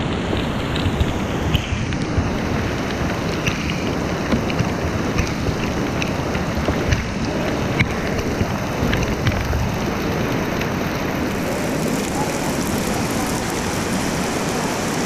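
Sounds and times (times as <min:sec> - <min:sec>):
rain falling on water: 0:00.0 - 0:15.0
raindrops ticking close by: 0:00.0 - 0:15.0.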